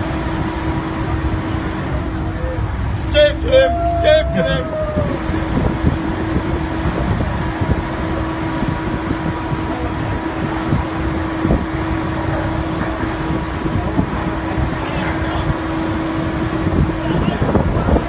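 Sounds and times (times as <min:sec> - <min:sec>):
machine hum: 0:00.0 - 0:18.0
wind blowing across microphone: 0:00.0 - 0:18.0.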